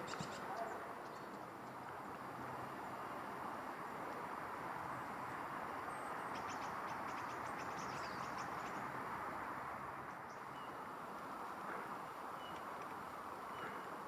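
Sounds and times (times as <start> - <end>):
songbirds calling: 0.0 - 3.1, 4.8 - 9.0, 10.0 - 14.0.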